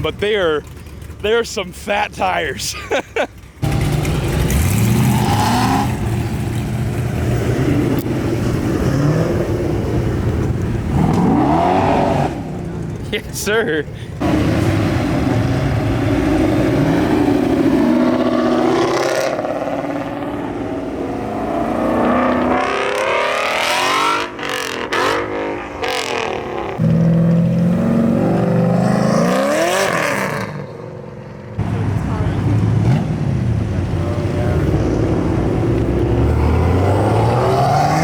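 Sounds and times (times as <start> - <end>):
car engines revving and accelerating: 0.0 - 38.0.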